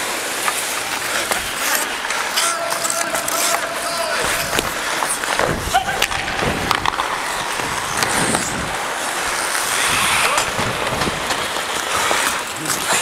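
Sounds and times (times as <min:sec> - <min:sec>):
ice skate blades scraping ice: 0:00.0 - 0:13.0.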